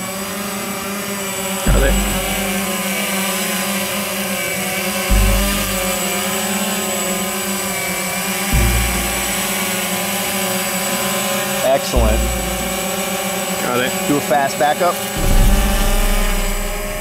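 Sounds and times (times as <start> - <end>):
quadcopter humming: 0.0 - 17.0.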